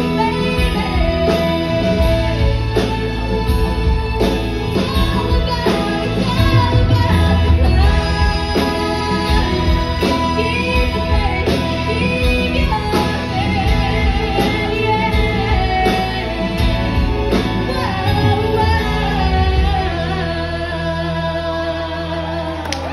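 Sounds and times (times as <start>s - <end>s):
woman singing with live band: 0.0s - 22.9s.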